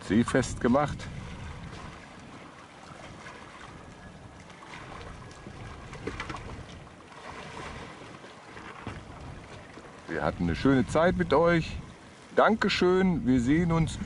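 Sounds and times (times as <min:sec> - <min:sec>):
water lapping: 0:00.0 - 0:14.0
wind on microphone: 0:00.0 - 0:14.0.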